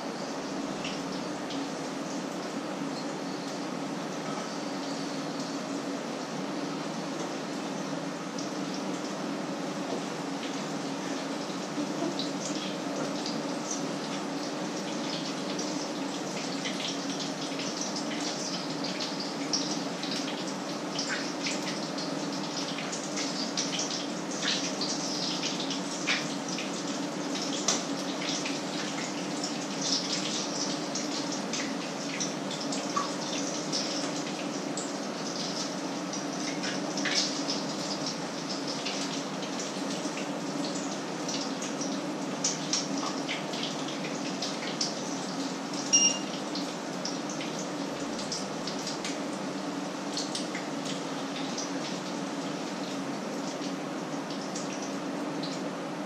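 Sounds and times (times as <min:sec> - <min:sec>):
patties sizzling in pans: 0:07.3 - 0:55.1.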